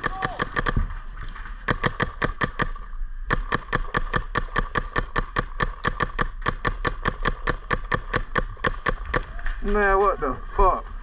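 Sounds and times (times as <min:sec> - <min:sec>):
paintball marker firing: 0:00.0 - 0:01.0, 0:01.6 - 0:09.7.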